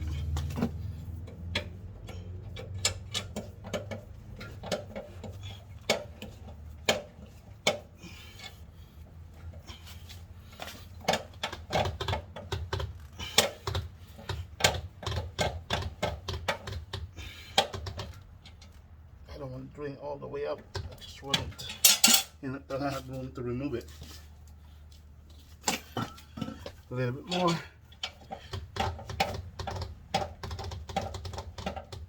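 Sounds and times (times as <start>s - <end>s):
car jack clicking and clanking: 0.0s - 8.6s, 9.3s - 18.9s, 20.6s - 22.4s, 25.6s - 32.0s.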